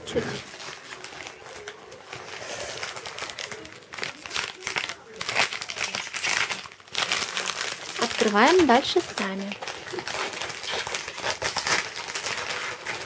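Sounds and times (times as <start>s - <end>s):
candy wrapper crinkling: 0.2s - 13.0s.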